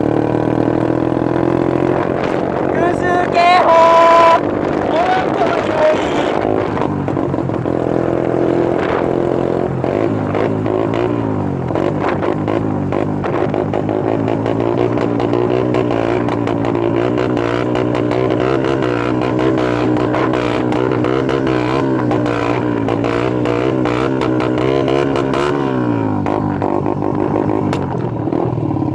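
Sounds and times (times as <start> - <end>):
engine crackles: 0.0 - 28.9
motorcycle engine revving: 0.0 - 28.9.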